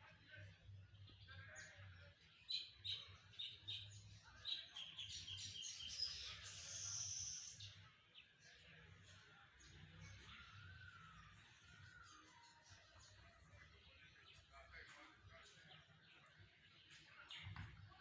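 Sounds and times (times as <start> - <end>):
birds chirping: 0.3 - 18.0.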